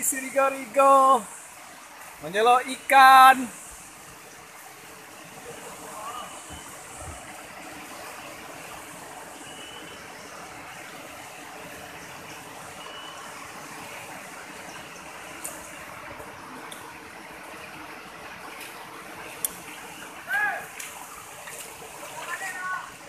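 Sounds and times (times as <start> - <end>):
river water running over stones: 0.0 - 23.0.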